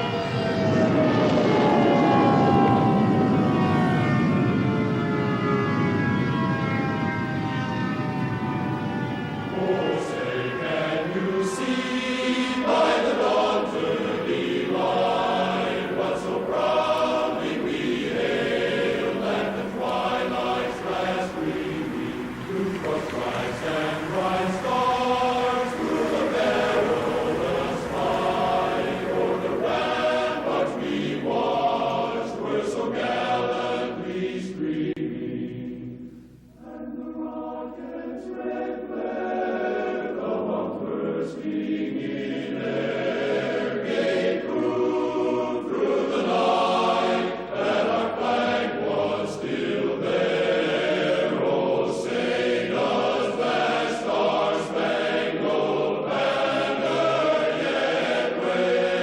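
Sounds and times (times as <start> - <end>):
choir singing: 0.0 - 3.0, 8.8 - 59.0.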